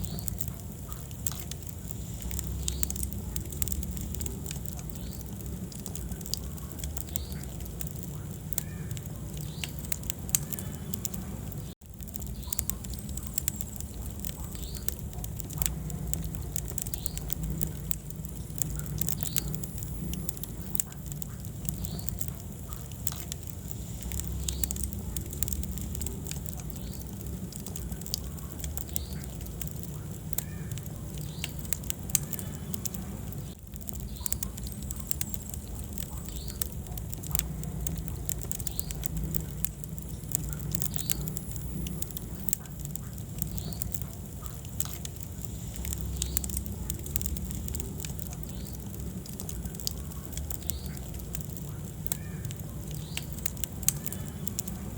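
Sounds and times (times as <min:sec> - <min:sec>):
fire rumbling in fireplace: 0:00.0 - 0:54.9
logs crackling and popping: 0:00.0 - 0:54.9.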